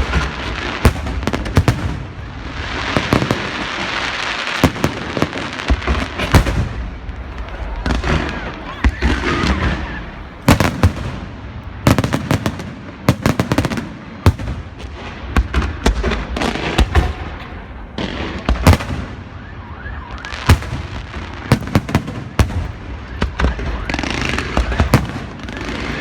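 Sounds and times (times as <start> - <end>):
fireworks crackle and hiss: 0.0 - 19.3, 20.2 - 26.0
fireworks banging: 0.0 - 26.0.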